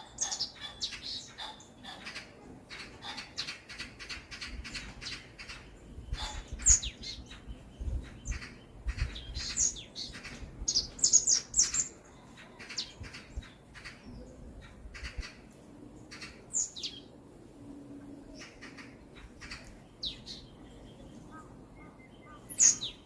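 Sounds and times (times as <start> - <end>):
down-sweeping bird calls: 0.0 - 17.2, 18.2 - 23.0
songbirds chirping: 0.0 - 23.0.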